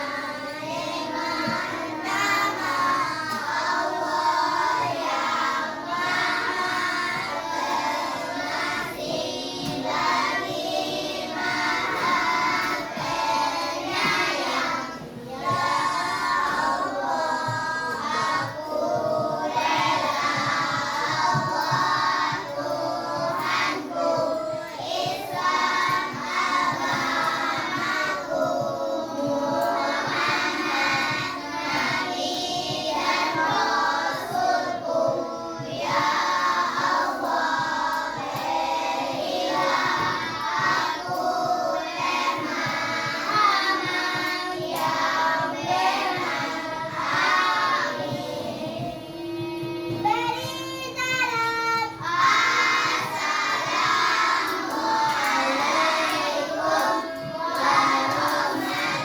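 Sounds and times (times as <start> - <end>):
children singing: 0.0 - 59.0.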